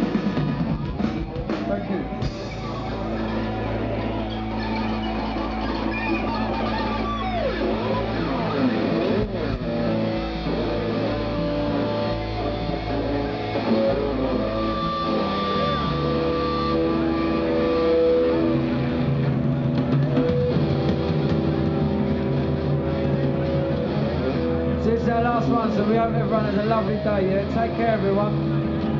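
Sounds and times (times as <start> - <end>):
bass guitar: 0.0 - 28.9
electric guitars sustained notes: 0.0 - 28.9.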